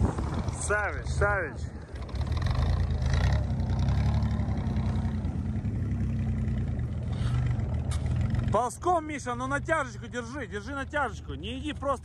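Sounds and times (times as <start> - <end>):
engine running at low revs: 0.0 - 11.9.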